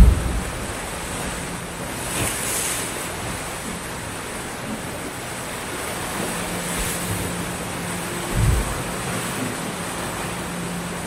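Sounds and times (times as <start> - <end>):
waves washing up a beach: 0.0 - 11.0.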